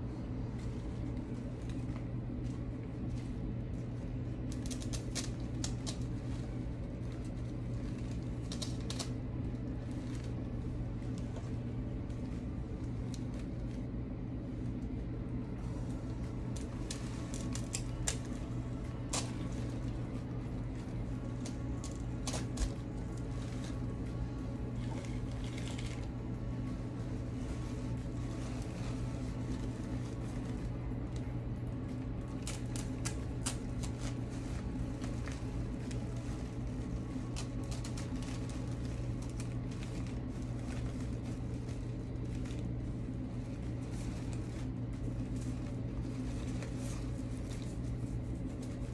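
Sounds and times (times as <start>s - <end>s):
steady low hum: 0.0s - 48.9s
artificial flower stems clicking: 0.6s - 13.8s, 15.9s - 26.3s, 26.9s - 47.9s.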